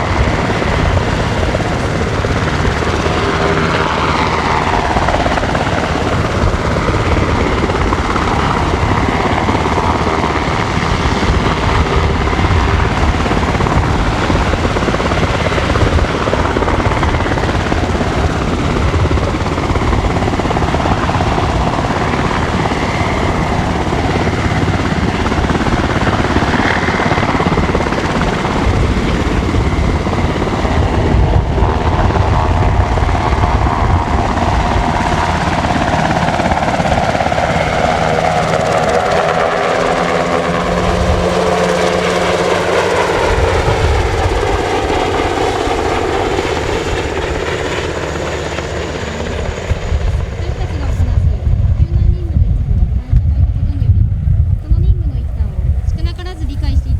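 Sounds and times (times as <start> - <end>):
helicopter rotors rumbling: 0.0 - 56.9
turbine engine whine: 0.0 - 56.9.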